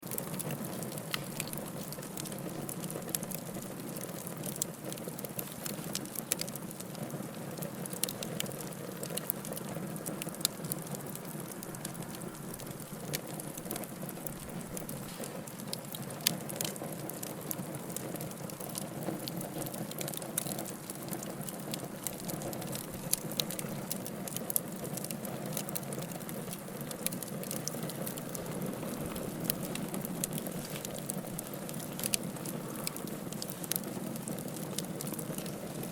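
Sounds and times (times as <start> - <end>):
burning wood crackling and popping: 0.0 - 35.9
fire flames rushing: 0.1 - 35.9.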